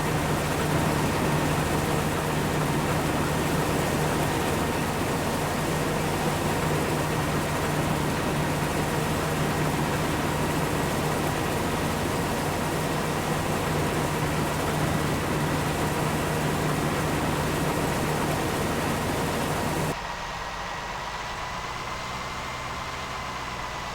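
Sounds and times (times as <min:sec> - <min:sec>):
thin steady whine: 0:00.0 - 0:23.7
farm machine engine drone: 0:00.0 - 0:23.9.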